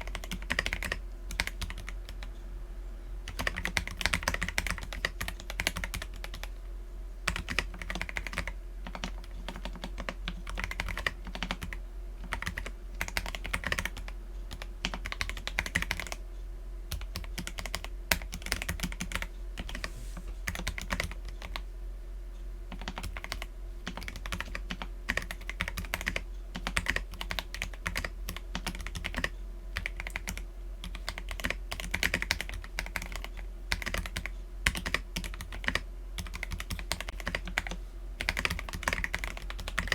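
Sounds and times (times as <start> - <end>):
fast mechanical keyboard typing: 0.0 - 2.2, 3.3 - 6.5, 7.3 - 16.2, 16.9 - 19.8, 20.5 - 21.6, 22.7 - 39.9.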